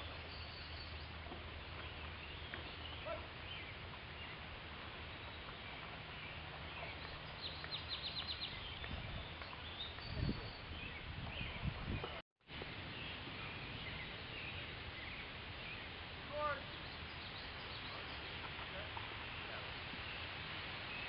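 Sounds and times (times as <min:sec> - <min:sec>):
songbird calls: 0:00.0 - 0:12.2, 0:12.8 - 0:21.0.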